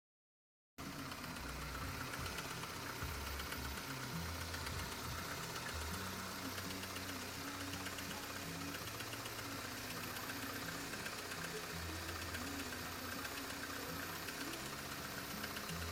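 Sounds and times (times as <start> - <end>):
car engine idling: 0.8 - 15.9.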